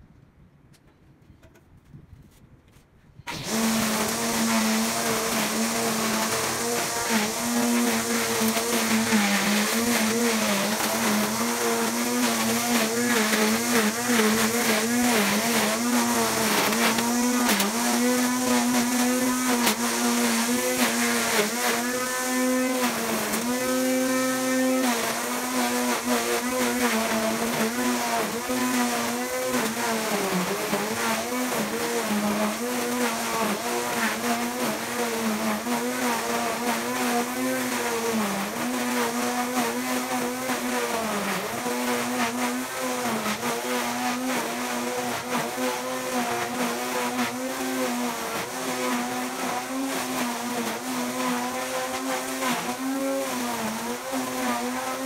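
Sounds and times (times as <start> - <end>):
string trimmer motor whine: 3.3 - 55.0.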